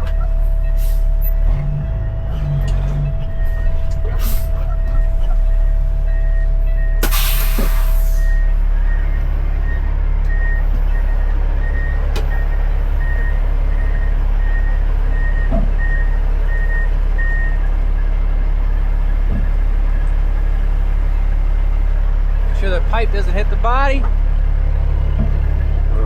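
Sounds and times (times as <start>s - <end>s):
truck backup alarm beeping: 0.0s - 20.2s, 22.5s - 24.0s
diesel engine running: 0.0s - 26.0s.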